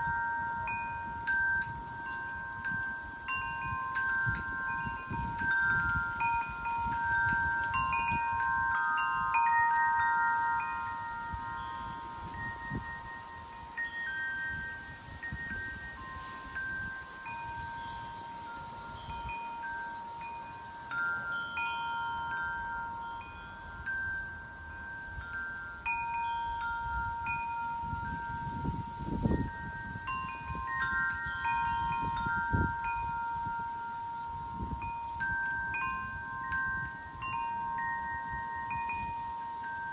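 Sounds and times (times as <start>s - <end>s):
wind rumble on microphone: 0.0s - 21.3s, 22.2s - 39.9s
wind chimes ringing: 0.0s - 39.9s.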